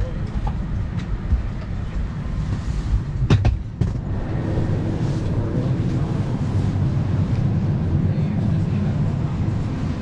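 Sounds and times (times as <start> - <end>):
low cabin rumble: 0.0 - 10.0.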